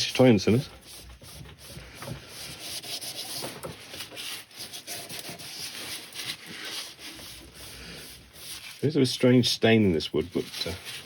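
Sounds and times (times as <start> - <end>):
cloth rubbing wood: 0.0 - 11.0.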